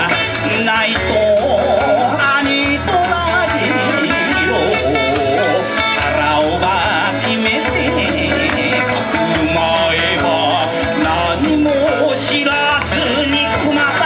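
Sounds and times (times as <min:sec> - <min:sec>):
live folk band music: 0:00.0 - 0:14.0
steady drum beat: 0:00.0 - 0:14.0.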